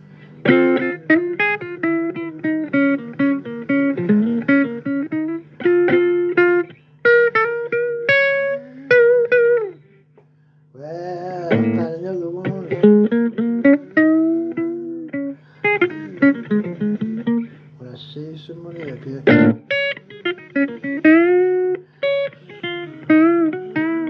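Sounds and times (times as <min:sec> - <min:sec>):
picked blues guitar: 0:00.0 - 0:24.0.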